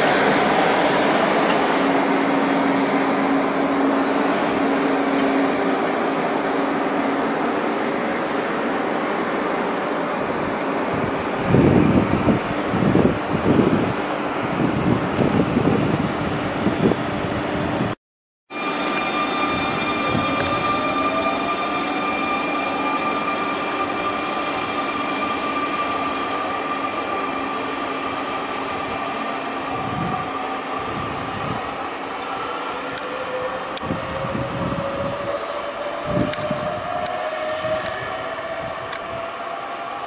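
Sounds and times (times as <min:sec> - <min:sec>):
electric train hum: 0:00.0 - 0:40.0.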